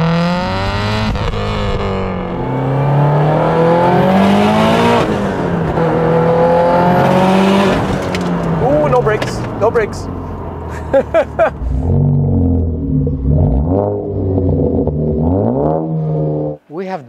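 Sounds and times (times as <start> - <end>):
turbocharged car engine accelerating: 0.0 - 16.7.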